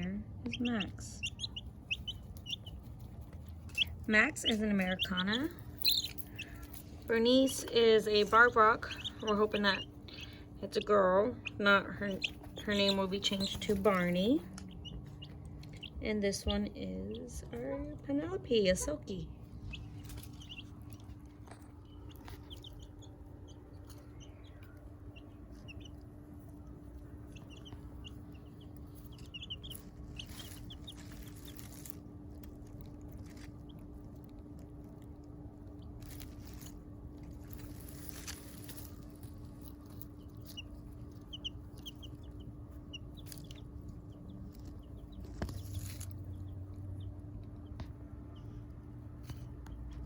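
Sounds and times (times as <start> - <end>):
chicks peeping: 0.0 - 50.0
steady low hum: 0.0 - 50.0.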